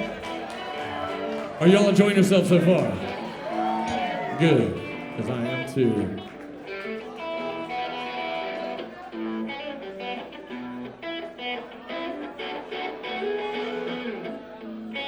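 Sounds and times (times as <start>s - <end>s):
rock guitar strumming: 0.0s - 15.0s.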